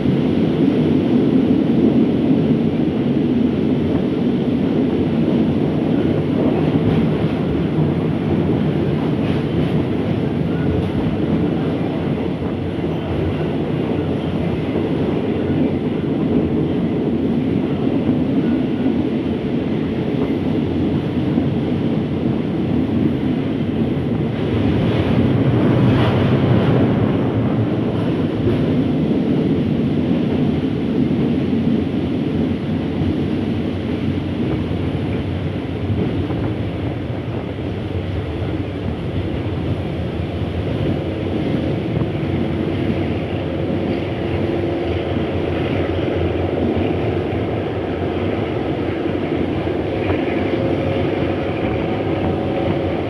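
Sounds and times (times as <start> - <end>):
train wheels rumbling: 0.0 - 53.0.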